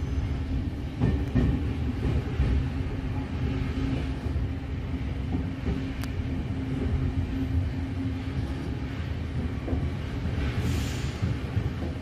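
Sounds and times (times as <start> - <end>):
train low rumble with hum: 0.0 - 12.0.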